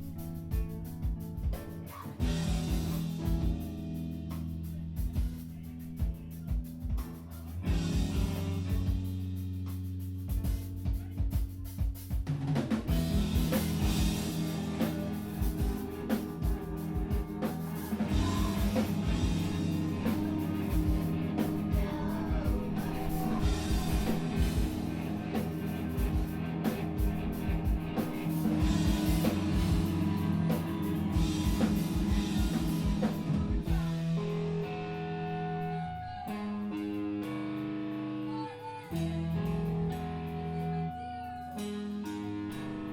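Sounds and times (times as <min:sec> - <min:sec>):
pounding drum kit: 0:00.0 - 0:34.7
distorted guitar and bass chords: 0:00.0 - 0:42.9.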